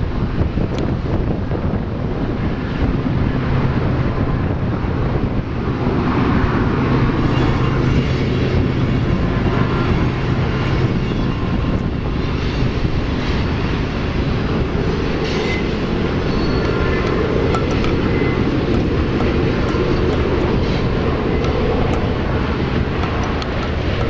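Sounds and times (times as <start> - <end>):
train wheels rumbling on rail: 0.0 - 24.0
wind buffeting microphone: 0.0 - 24.0
low hum: 3.2 - 24.0.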